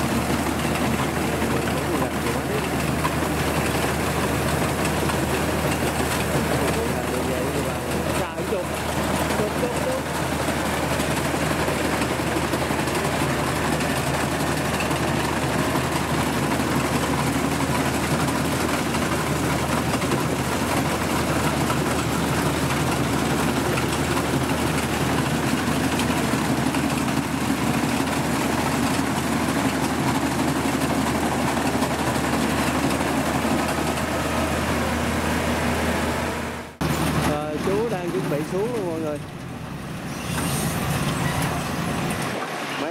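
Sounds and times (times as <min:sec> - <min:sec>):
diesel engine humming: 0:00.0 - 0:42.9
machinery noise: 0:00.0 - 0:42.9.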